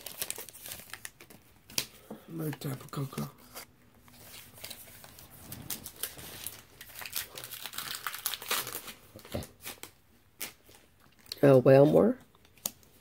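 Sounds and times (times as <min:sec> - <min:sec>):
foil wrapper crinkling: 0:00.0 - 0:01.9, 0:02.6 - 0:11.4.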